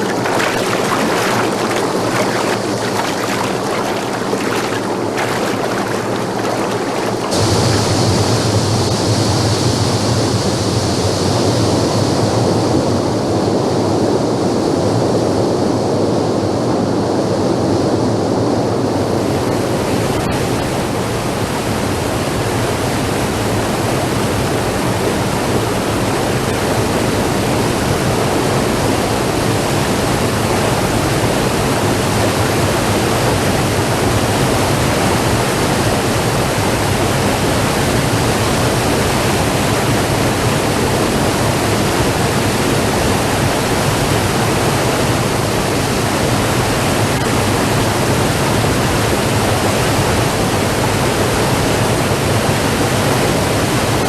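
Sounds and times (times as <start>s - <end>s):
rushing white water: 0.0s - 54.0s.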